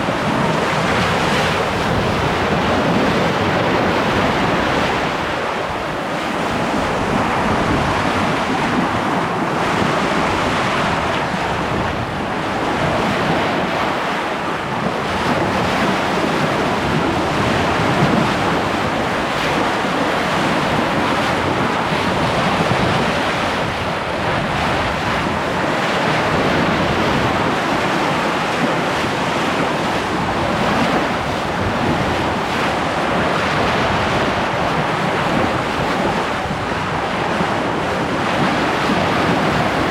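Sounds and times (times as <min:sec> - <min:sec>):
water rushing along hull: 0:00.0 - 0:39.9
wind on microphone: 0:00.0 - 0:39.9.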